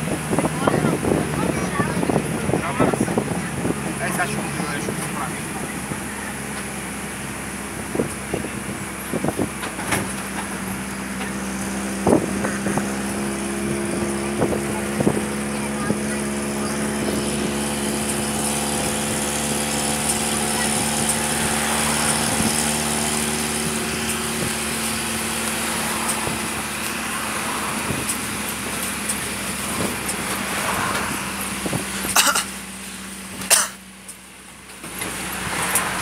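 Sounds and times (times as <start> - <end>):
engine hum: 0.0 - 36.0
road and wind noise: 0.0 - 36.0.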